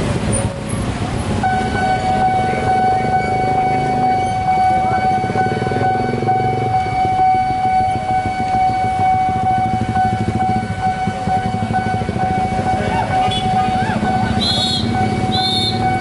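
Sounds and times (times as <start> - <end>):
passing vehicle engines: 0.0 - 16.0
level crossing warning siren: 1.3 - 16.0.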